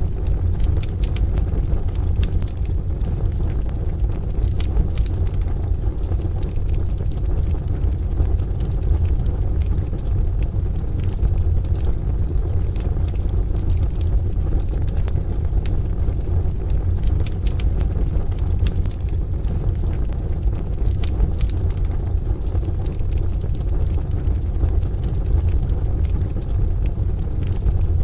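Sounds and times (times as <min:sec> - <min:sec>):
rain: 0:00.0 - 0:28.0
wood fire crackling in stove: 0:00.0 - 0:28.0.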